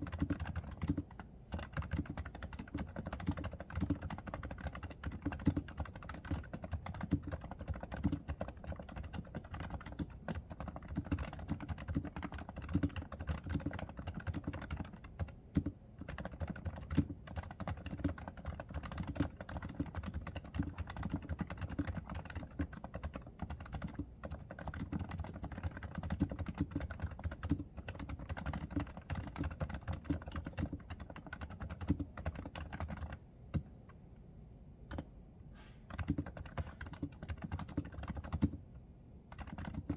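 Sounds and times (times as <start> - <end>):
quiet keyboard typing: 0.0 - 34.0, 34.8 - 35.2, 35.8 - 39.9.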